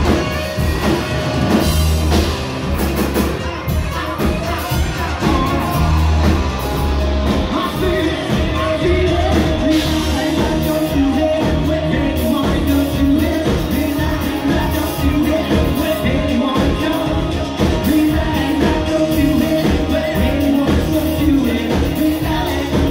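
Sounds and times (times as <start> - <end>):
drums: 0.0 - 22.9
electric guitar: 0.0 - 22.9
rock band playing: 0.0 - 22.9
person singing: 3.2 - 22.9.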